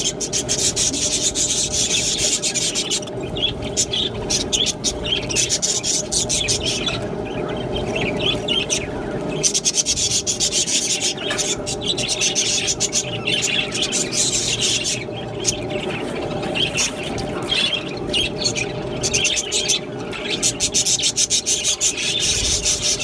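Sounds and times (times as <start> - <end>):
budgerigars chattering: 0.0 - 23.0
steady hum: 0.0 - 23.0.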